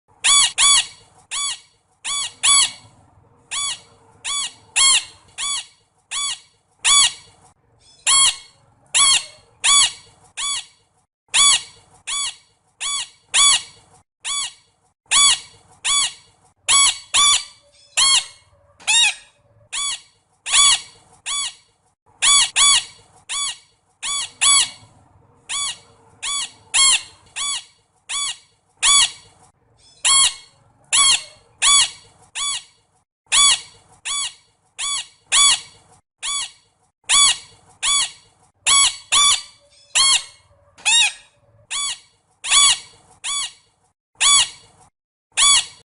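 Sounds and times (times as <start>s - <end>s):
parrot squawking: 0.2s - 2.9s, 3.5s - 10.7s, 11.3s - 21.6s, 22.2s - 32.7s, 33.3s - 43.6s, 44.2s - 44.7s, 45.4s - 45.8s.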